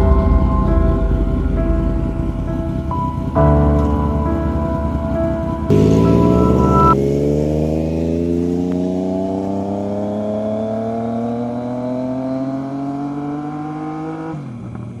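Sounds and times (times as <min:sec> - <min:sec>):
motorcycle engine accelerating: 0:00.8 - 0:15.0.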